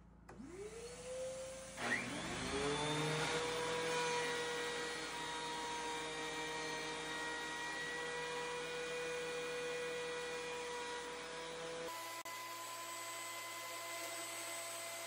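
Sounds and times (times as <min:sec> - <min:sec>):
thickness planer whining: 0:00.3 - 0:15.0.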